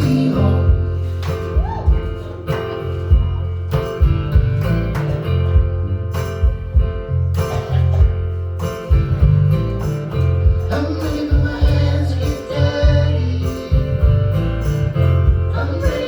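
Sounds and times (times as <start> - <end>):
guitar strumming: 0.0 - 16.0.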